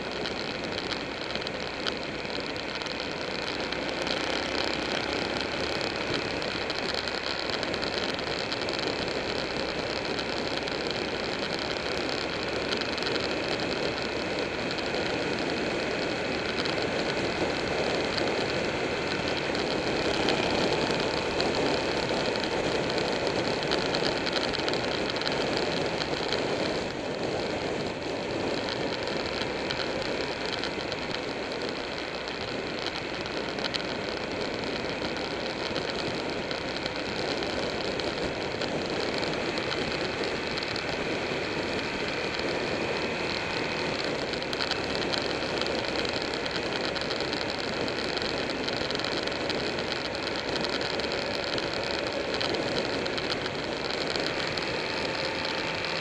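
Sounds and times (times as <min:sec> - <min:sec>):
motorcycle engine cruising: 0:00.0 - 0:56.0
wind noise on microphone: 0:04.6 - 0:56.0.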